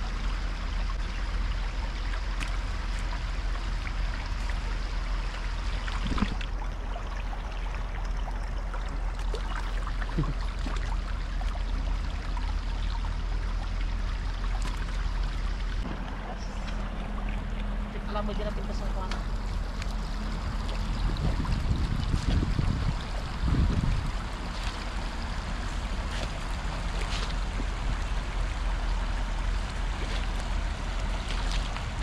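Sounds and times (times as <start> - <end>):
shallow river flowing: 0.0 - 32.0
wind rumble on microphone: 0.0 - 32.0.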